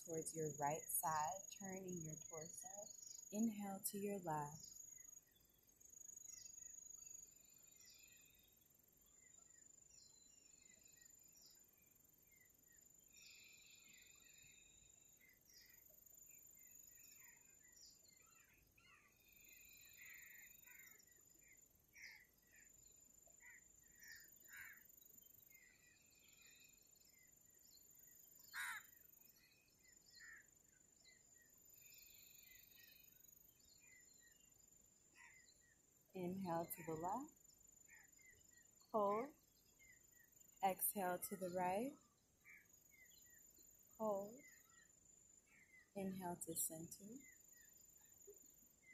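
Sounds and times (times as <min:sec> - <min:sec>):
faint birdsong: 0:00.0 - 0:48.9.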